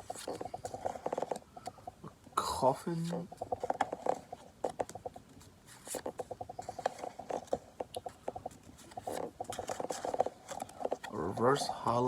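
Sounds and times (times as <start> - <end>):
cards rustling: 0.0 - 12.0.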